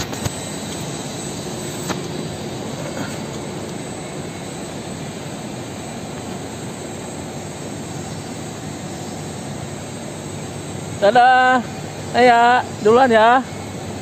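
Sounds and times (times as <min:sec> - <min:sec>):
rushing machinery noise: 0:00.0 - 0:14.0.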